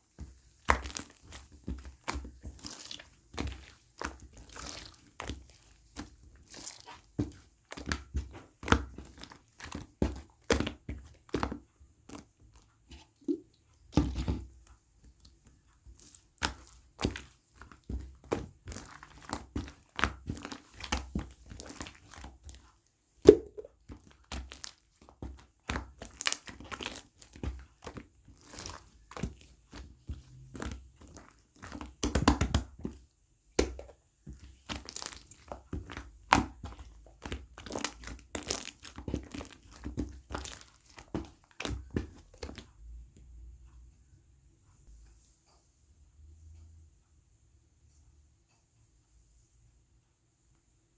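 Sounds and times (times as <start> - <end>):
crinkling handling sounds: 0.0 - 33.0, 33.6 - 42.8.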